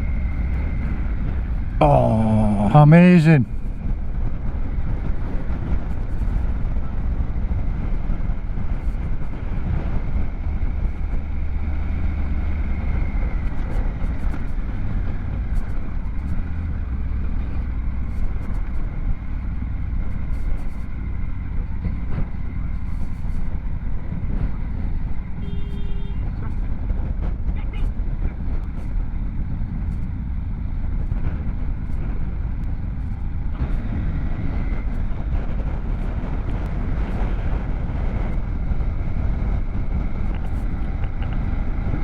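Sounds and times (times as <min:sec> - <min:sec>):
road noise: 0:00.0 - 0:42.0.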